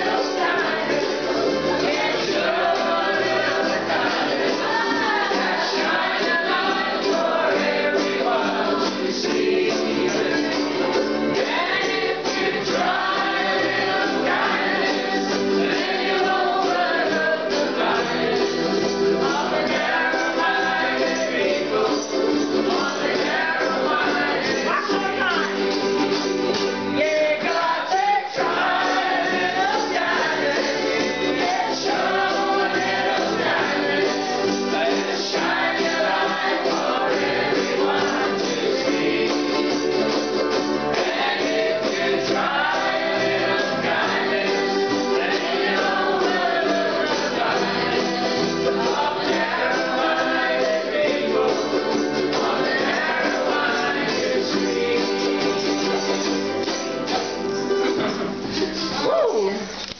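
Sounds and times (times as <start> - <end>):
people singing in unison: 0.0 - 25.8, 26.8 - 56.5
ukuleles strumming: 0.0 - 59.9.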